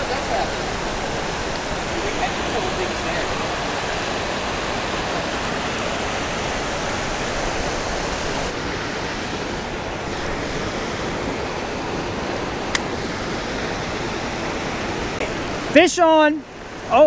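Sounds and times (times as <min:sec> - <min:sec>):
water rushing over spillway: 0:00.0 - 0:17.0.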